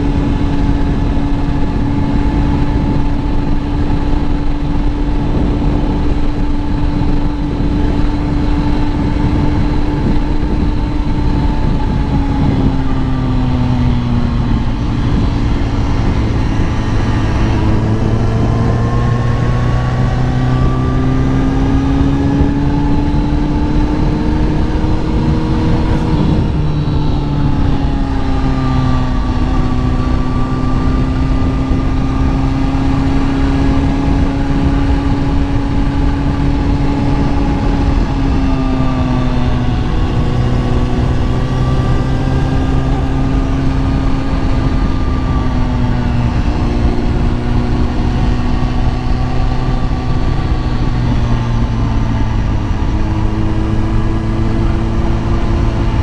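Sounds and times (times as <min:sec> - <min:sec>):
motorcycle engine running: 0:00.0 - 0:56.0
steady rush of noise: 0:00.0 - 0:56.0.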